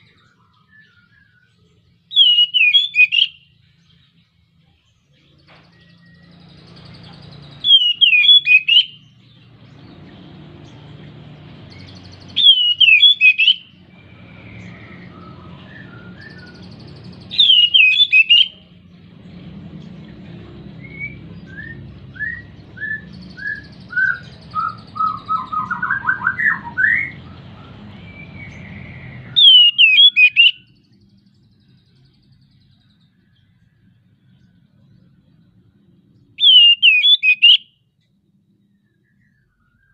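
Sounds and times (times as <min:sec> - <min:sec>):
bird trill: 0:00.0 - 0:19.2, 0:19.8 - 0:33.8, 0:36.4 - 0:37.8
bird warbling song: 0:00.0 - 0:37.7.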